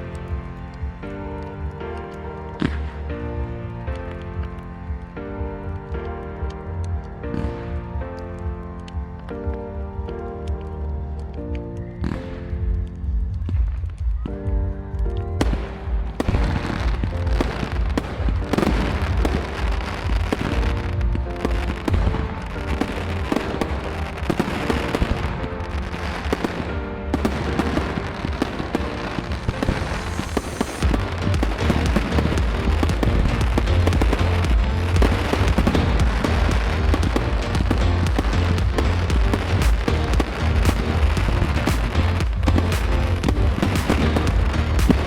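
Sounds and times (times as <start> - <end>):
fireworks bursting and crackling: 0.0 - 45.0
music playing: 0.0 - 45.0.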